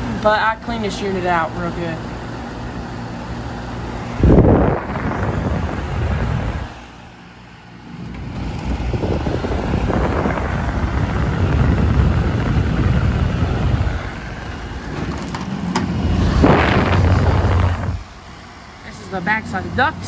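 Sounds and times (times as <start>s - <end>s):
air conditioner fan rushing: 0.0s - 20.0s.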